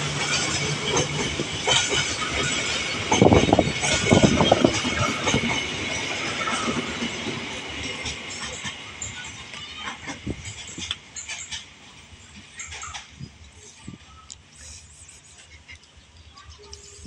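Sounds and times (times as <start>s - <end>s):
train wheels clacking on rail joints: 0.0s - 14.2s.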